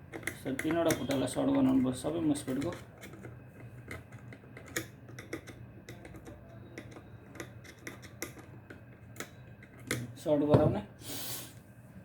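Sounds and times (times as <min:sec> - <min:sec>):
metal tool clicking and tapping: 0:00.0 - 0:10.1
low steady hum: 0:00.0 - 0:12.0.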